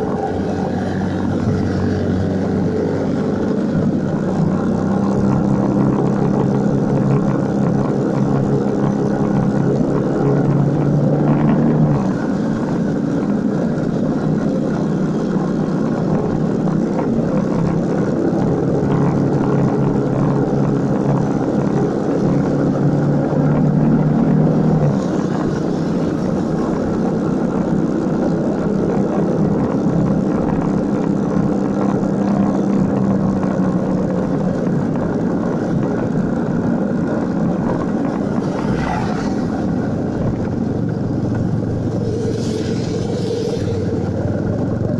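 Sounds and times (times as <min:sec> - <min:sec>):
motorcycle engine running: 0:00.0 - 0:44.9
road and wind noise: 0:00.0 - 0:44.9.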